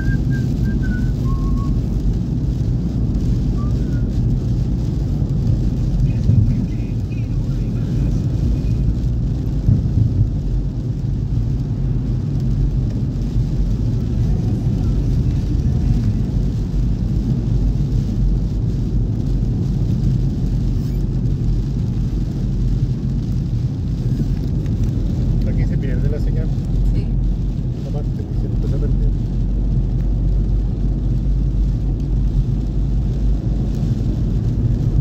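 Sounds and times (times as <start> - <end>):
car engine and tyres rumble: 0.0 - 35.0.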